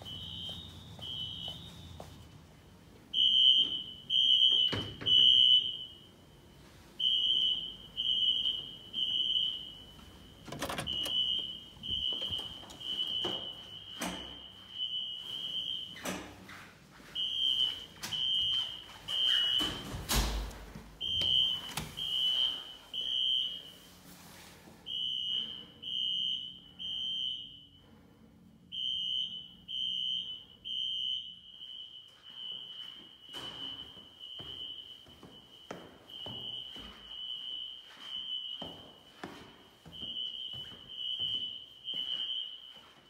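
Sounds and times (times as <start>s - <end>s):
fire alarm horn beeps: 0.0s - 2.4s, 3.1s - 24.0s, 24.8s - 43.0s.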